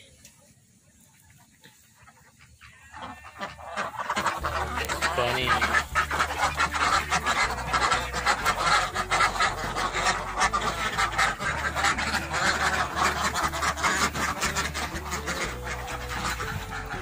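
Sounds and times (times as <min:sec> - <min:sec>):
ducks quacking: 0:00.8 - 0:17.0.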